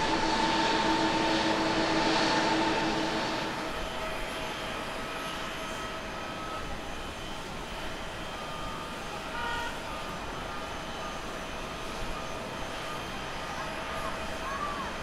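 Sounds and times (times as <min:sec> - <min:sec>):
jet engine rumble with whine: 0:00.0 - 0:15.0.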